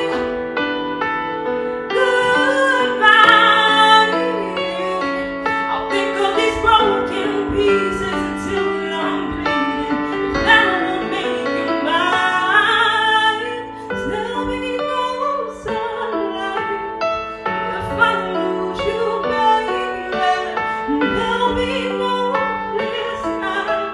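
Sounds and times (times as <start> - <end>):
woman singing: 0.0 - 1.0, 1.8 - 23.9
piano accompaniment: 0.0 - 23.9.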